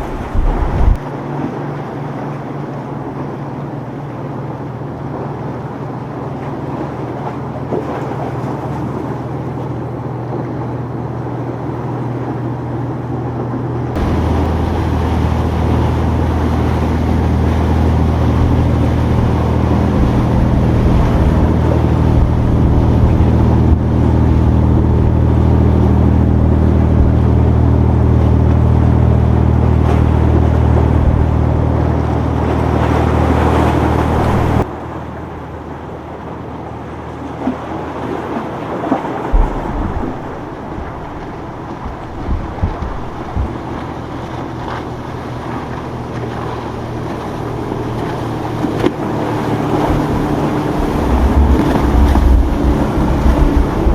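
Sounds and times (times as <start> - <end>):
powerboat engines droning: 0.0 - 53.9
wind and water rushing: 0.0 - 53.9.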